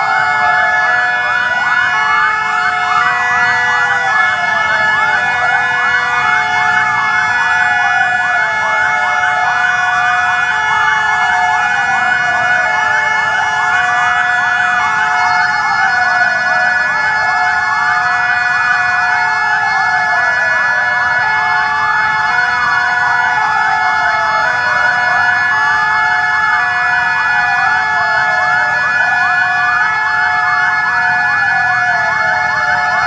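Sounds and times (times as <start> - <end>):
held steady siren tones: 0.0 - 33.0
wailing fire engine sirens: 0.0 - 33.0.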